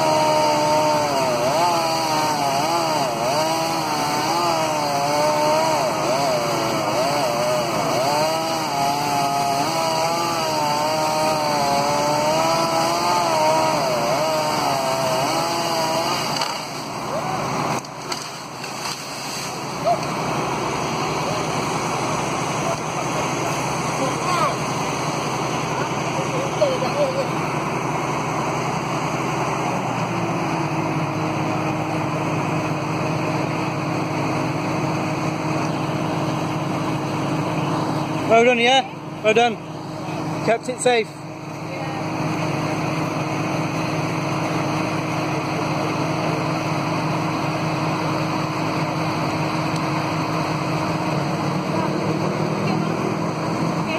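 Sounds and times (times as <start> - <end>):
chainsaw cutting wood: 0.0 - 53.9
engine running steadily: 0.0 - 53.9.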